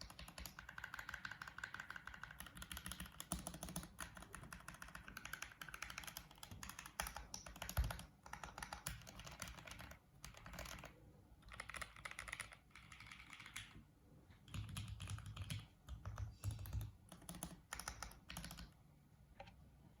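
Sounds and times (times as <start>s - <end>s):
mechanical keyboard typing: 0.0s - 13.8s, 14.4s - 18.8s.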